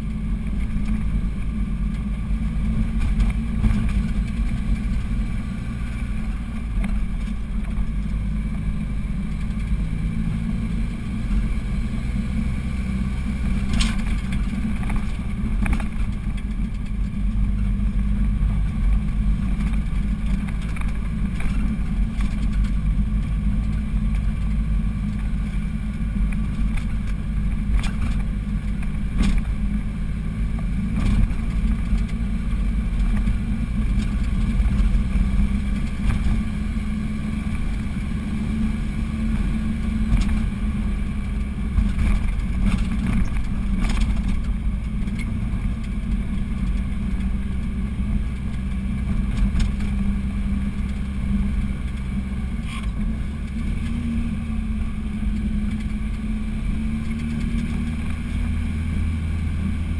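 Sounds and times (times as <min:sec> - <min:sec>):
car engine droning under load: 0:00.0 - 0:59.9.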